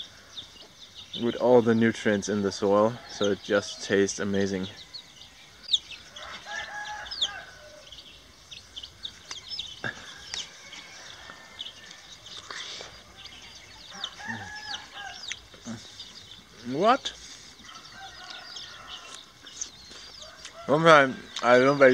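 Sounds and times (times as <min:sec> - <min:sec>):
chickens clucking: 0:00.0 - 0:21.9
small birds chirping: 0:00.0 - 0:21.9.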